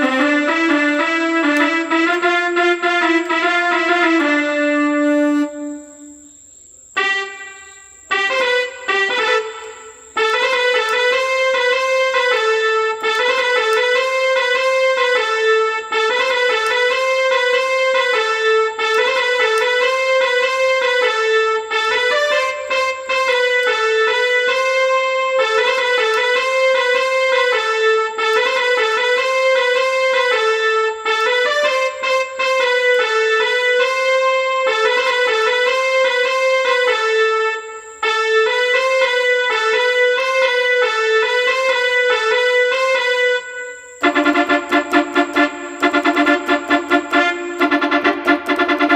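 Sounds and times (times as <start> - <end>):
electronic keyboard two-note melody: 0.0 - 48.9.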